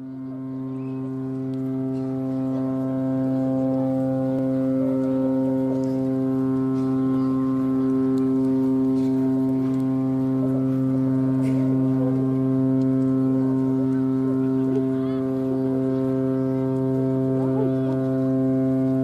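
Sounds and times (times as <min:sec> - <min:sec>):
low horn-like tone: 0:00.0 - 0:19.0.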